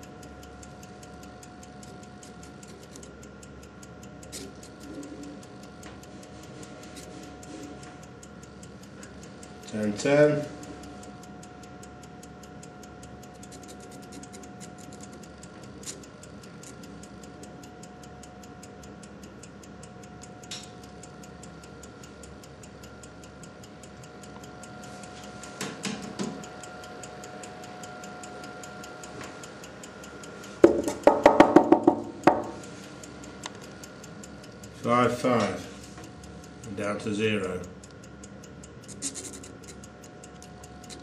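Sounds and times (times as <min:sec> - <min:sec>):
faint steady hum: 0:00.0 - 0:41.0
rapid mechanical ticking: 0:00.0 - 0:41.0.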